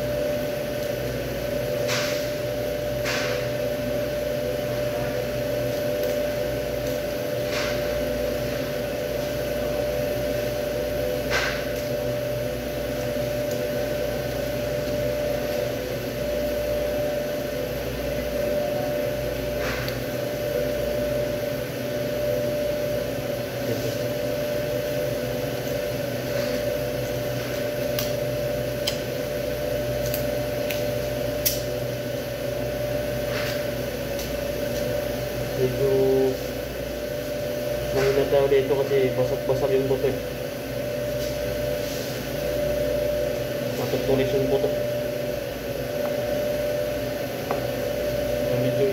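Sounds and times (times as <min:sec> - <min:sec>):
steady machine hum: 0:00.0 - 0:48.9.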